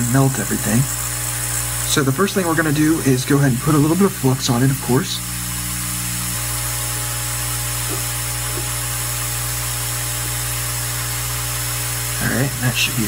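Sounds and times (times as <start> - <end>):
hot air blower hiss: 0.0 - 13.0
low electrical hum: 0.0 - 13.0.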